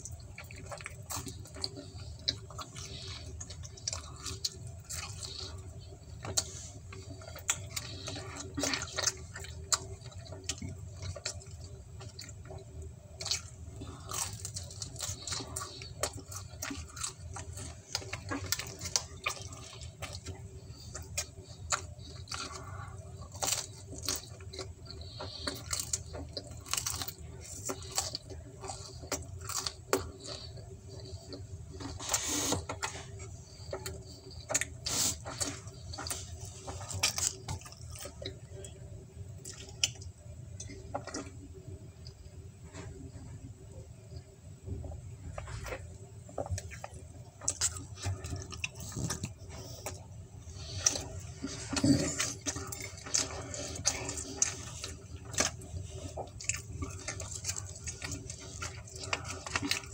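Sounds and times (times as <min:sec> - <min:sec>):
wet chewing: 0:00.0 - 0:42.9, 0:45.2 - 0:59.9
low steady hum: 0:00.0 - 0:59.9.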